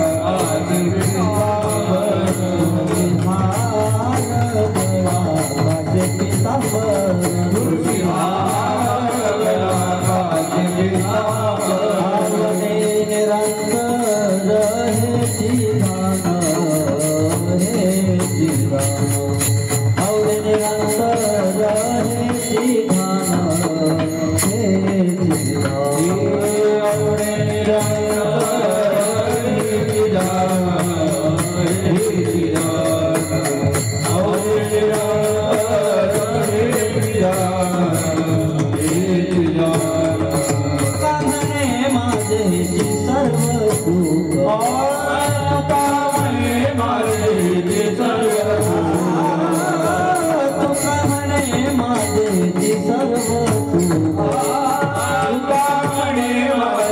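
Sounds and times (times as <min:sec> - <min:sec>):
jingling hand percussion: 0:00.0 - 0:56.9
person singing devotional melody: 0:00.0 - 0:56.9.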